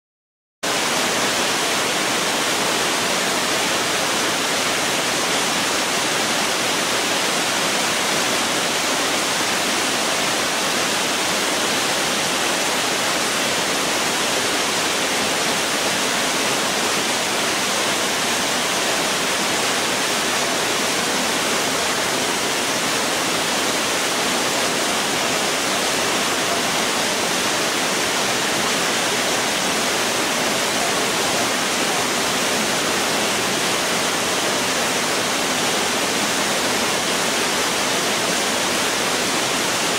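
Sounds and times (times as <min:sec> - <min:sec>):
heavy rain falling: 0:00.7 - 0:39.9.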